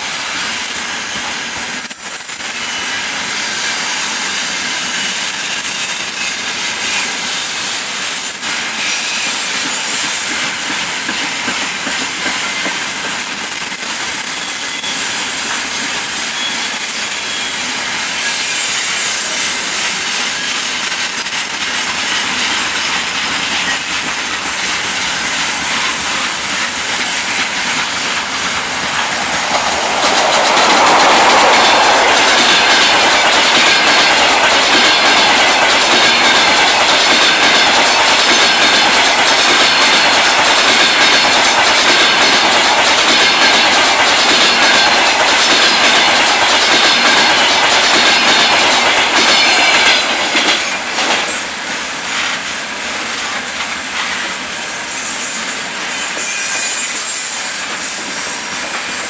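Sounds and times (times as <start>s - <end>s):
passing passenger train: 0.0s - 59.0s
steel wheels rolling on rail: 0.0s - 59.0s.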